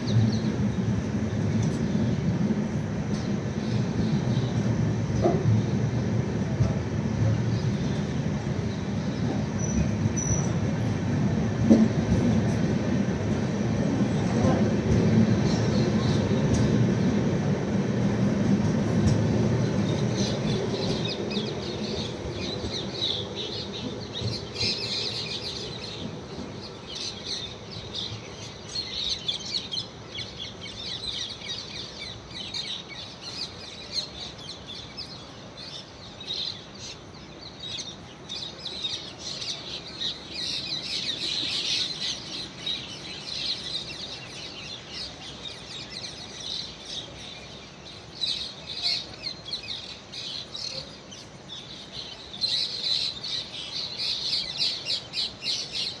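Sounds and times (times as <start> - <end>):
distant train rumble: 0.0 - 56.0
small birds chirping and twittering: 0.0 - 56.0.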